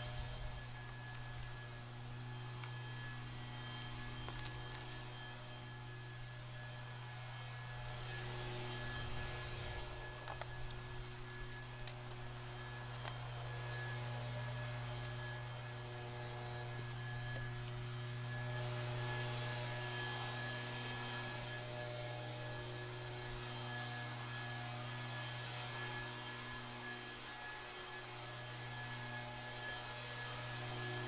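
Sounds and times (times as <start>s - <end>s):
low hum: 0.0s - 27.4s.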